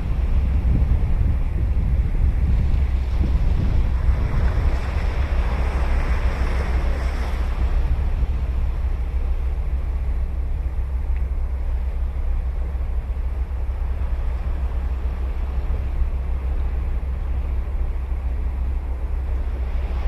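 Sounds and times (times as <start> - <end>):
ocean waves breaking: 0.0 - 20.0
wind buffeting microphone: 0.0 - 20.0.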